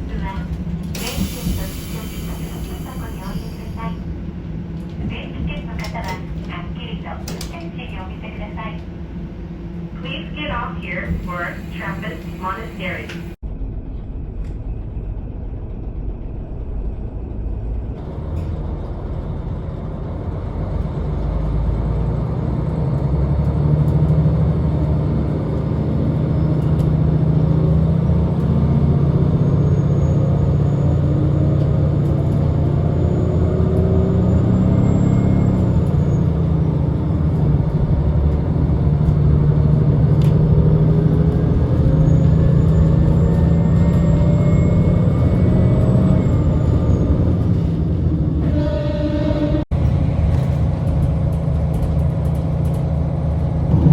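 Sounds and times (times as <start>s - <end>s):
diesel railcar engine accelerating: 0.0s - 53.9s.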